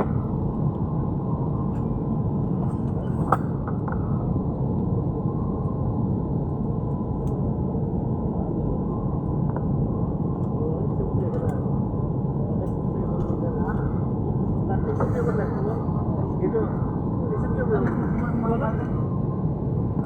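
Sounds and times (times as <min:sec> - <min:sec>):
airliner cabin rumble and hum: 0:00.0 - 0:20.0.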